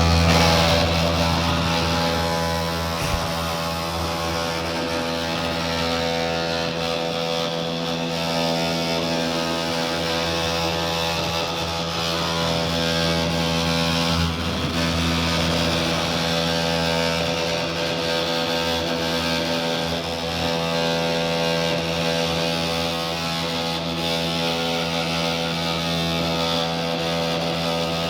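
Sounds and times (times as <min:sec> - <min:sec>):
robotic lawn mower running: 0:00.0 - 0:28.0.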